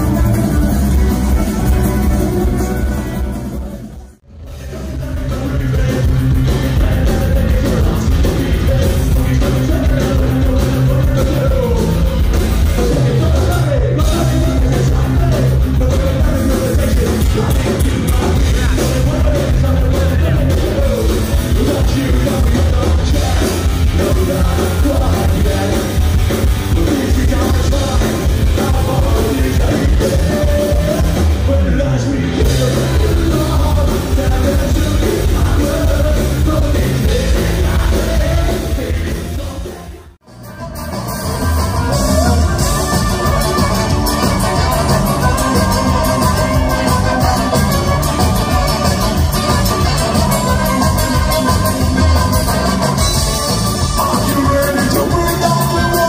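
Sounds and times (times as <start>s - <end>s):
bass guitar: 0.0s - 56.0s
distorted electric guitars: 0.0s - 56.0s
drums: 0.0s - 56.0s
singer shouting vocals: 4.6s - 26.0s, 26.7s - 56.0s.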